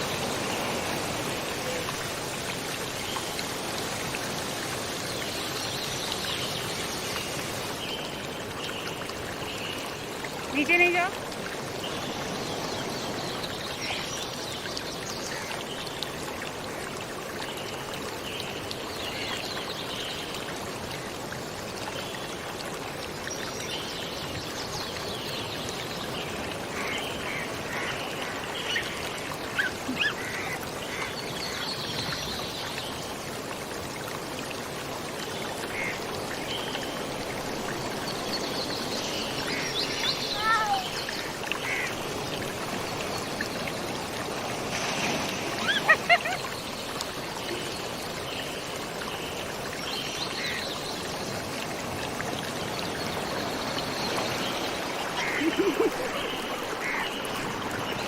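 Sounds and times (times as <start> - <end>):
sea water rushing: 0.0 - 21.7, 22.3 - 48.2, 48.9 - 58.0.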